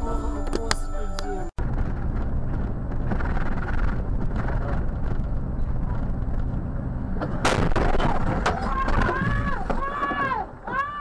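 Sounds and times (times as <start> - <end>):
car driving on street: 0.0 - 10.9.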